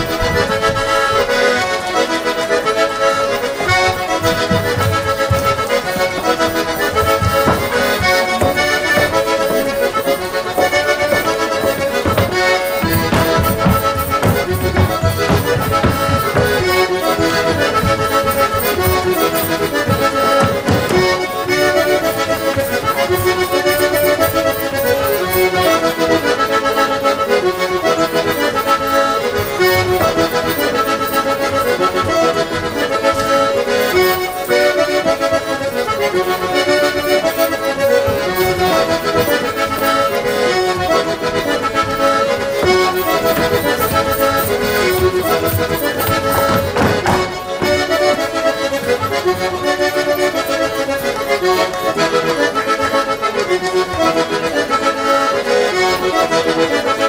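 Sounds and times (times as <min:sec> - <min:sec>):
accordion playing folk tune: 0:00.0 - 0:57.0.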